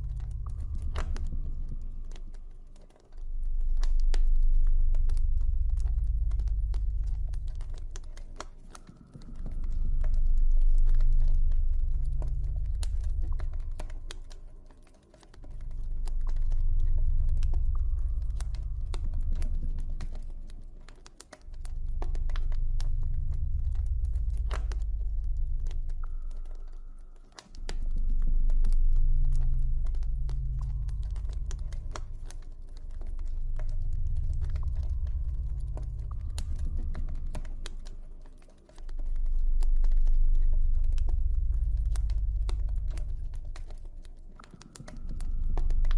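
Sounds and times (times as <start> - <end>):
deep low drone: 0.0 - 45.9.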